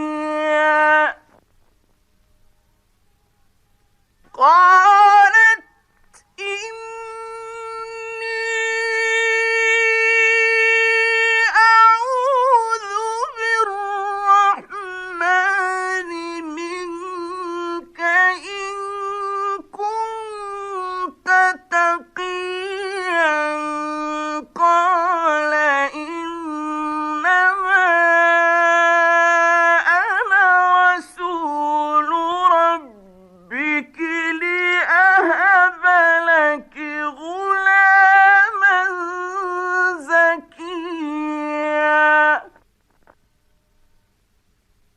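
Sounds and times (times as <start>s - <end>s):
man chanting recitation: 0.0s - 1.4s, 4.3s - 42.6s.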